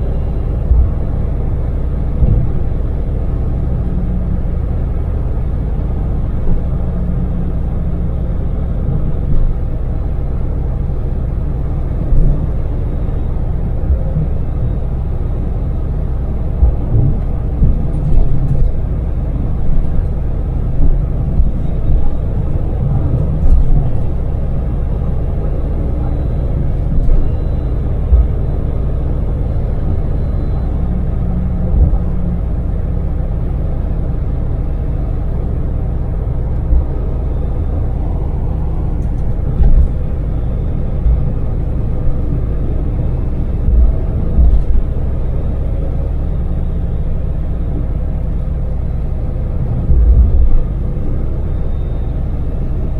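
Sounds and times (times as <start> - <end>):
minivan engine running: 0.0 - 52.9
road noise: 0.0 - 52.9.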